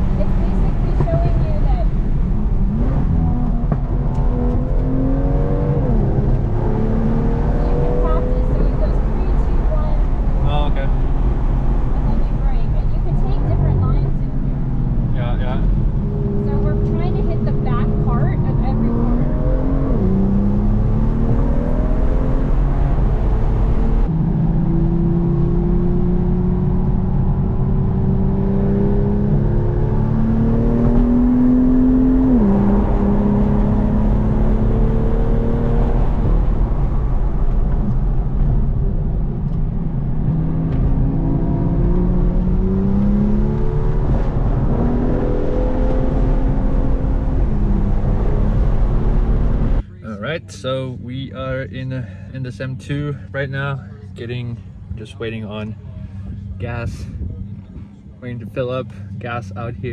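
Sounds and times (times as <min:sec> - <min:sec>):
car engine accelerating and upshifting: 0:00.0 - 0:59.9.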